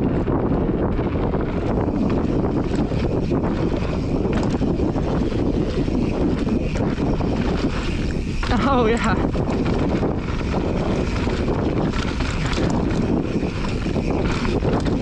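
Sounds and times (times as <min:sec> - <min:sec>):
bike clicks and rattles: 0:00.0 - 0:15.0
bike tyres rolling over dirt: 0:00.0 - 0:15.0
wind on microphone: 0:00.0 - 0:15.0.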